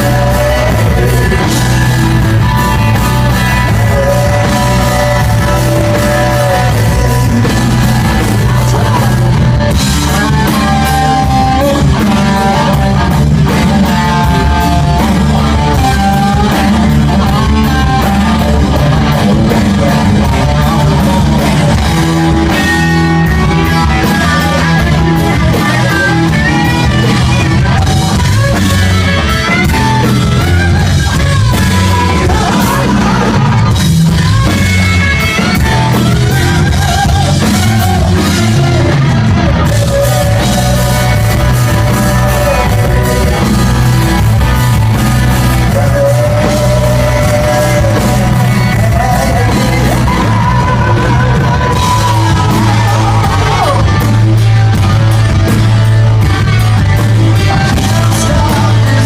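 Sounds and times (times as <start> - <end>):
lead vocal singing: 0.0 - 55.6, 56.2 - 59.0
bass guitar: 0.0 - 59.0
distorted electric guitars: 0.0 - 59.0
drums: 0.0 - 59.0.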